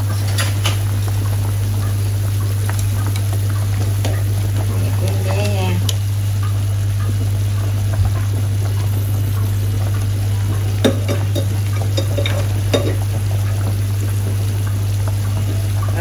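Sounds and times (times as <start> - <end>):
broth boiling in a pot: 0.0 - 16.0.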